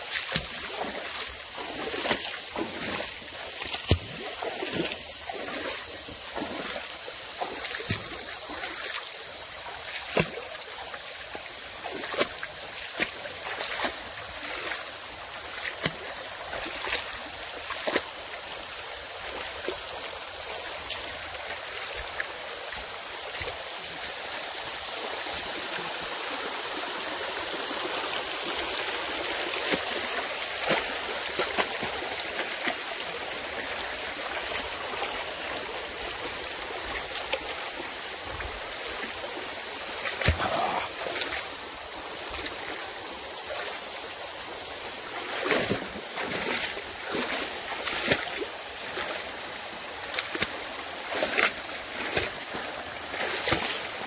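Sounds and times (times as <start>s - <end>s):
stream babbling: 0.0s - 54.0s
high-pitched hiss: 0.2s - 52.2s.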